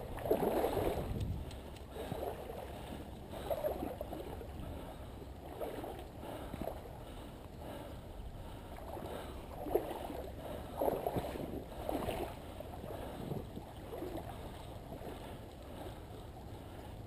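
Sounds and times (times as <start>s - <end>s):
stream water splashing: 0.0s - 7.2s, 8.6s - 17.0s.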